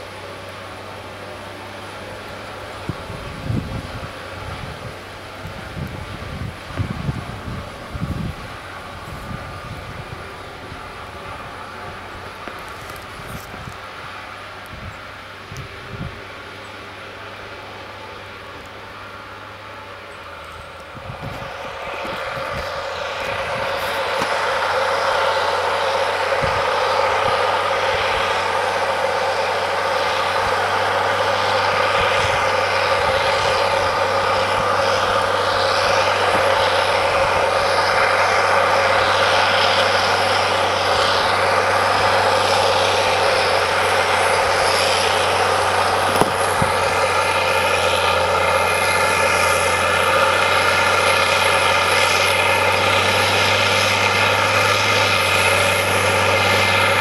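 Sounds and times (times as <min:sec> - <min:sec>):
tracked tractor working under load: 0:00.0 - 0:57.0.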